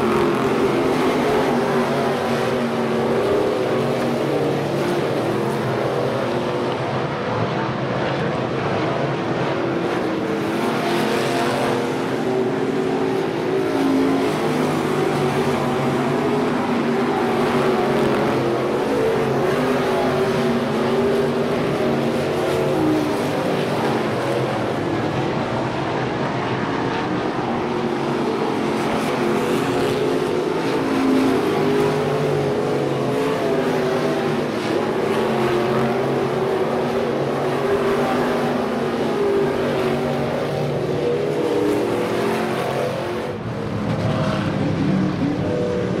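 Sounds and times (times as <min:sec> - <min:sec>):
race car engines roaring: 0:00.0 - 0:46.0.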